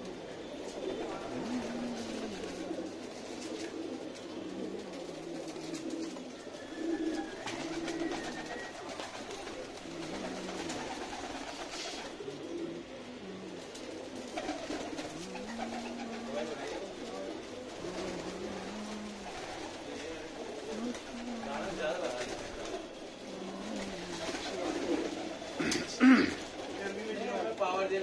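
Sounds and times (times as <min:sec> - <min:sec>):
pigeons cooing: 0:00.0 - 0:27.6.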